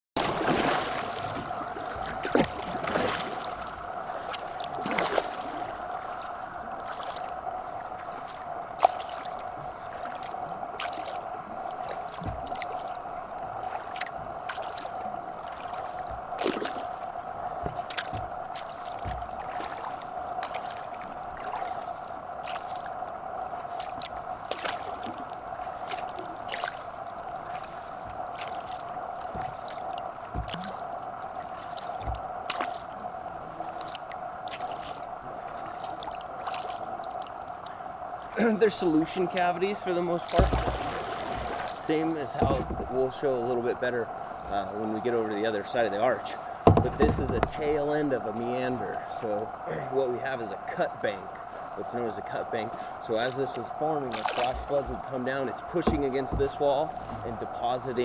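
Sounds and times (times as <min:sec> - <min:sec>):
paddle strokes and splashes: 0:00.2 - 0:58.0
steady hum: 0:00.2 - 0:58.0.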